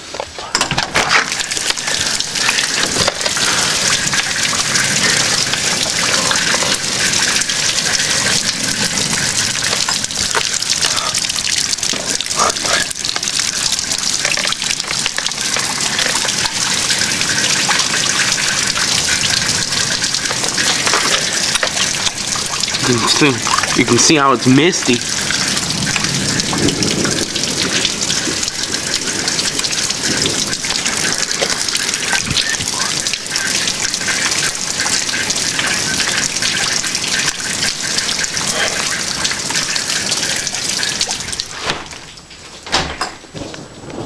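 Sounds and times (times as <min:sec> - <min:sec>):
gushing runoff: 0:00.0 - 0:42.3
heavy rain pouring: 0:00.0 - 0:44.0.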